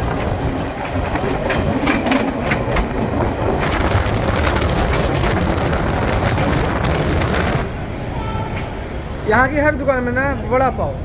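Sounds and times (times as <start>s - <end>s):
train rumbling on rails: 0.0s - 9.9s.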